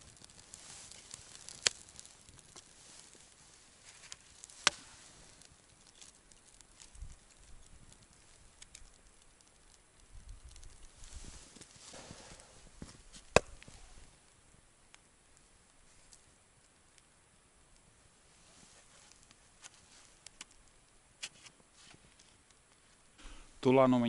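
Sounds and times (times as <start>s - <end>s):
campfire hissing: 0.0s - 24.0s
fire crackling pops: 0.0s - 24.0s.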